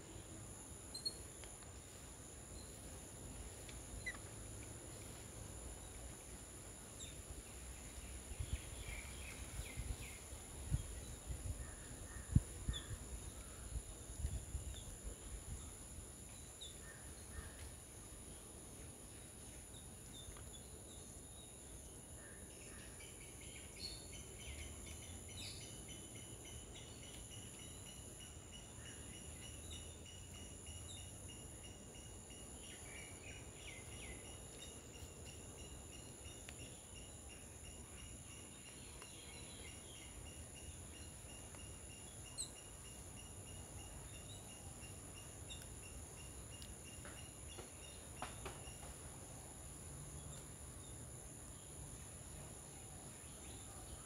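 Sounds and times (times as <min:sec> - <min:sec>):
fast pulsing insect chirp: 0:00.0 - 0:04.4, 0:05.5 - 0:54.0
high-pitched insect trill: 0:00.0 - 0:04.6, 0:06.8 - 0:54.0.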